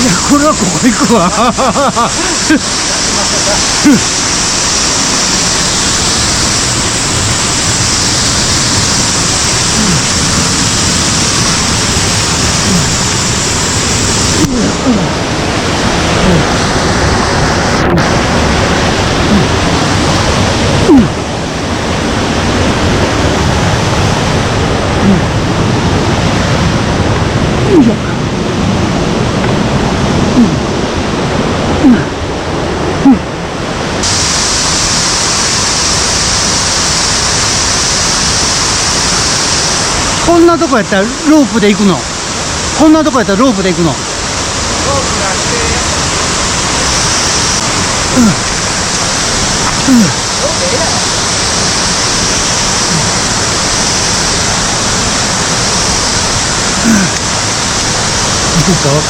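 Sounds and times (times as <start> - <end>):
rushing mountain stream: 0.0 - 59.0.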